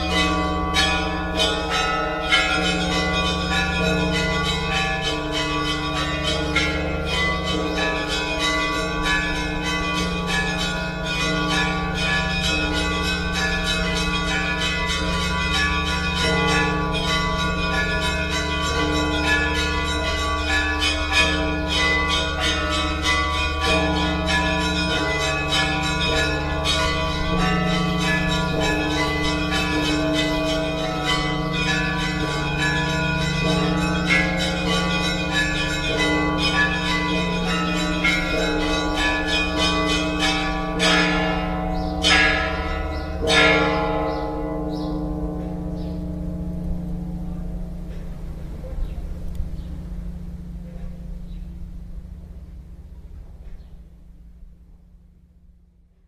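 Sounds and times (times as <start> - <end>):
low bell hum: 0.0 - 55.8
church bells ringing: 0.0 - 56.0.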